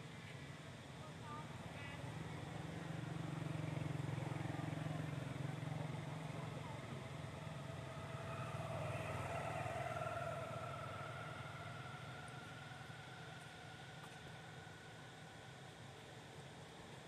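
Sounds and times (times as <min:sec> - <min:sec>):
vehicle engine humming: 0:01.3 - 0:17.0
higher rising drone: 0:02.4 - 0:16.9.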